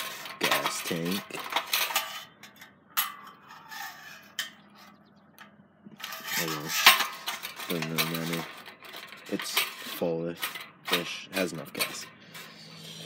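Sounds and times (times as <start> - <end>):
metal scraping: 0.0 - 13.0.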